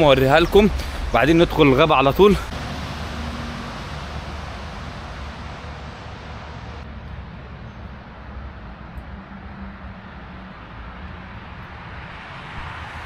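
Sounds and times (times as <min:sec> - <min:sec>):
passing car tyres and engine: 0:00.0 - 0:13.0.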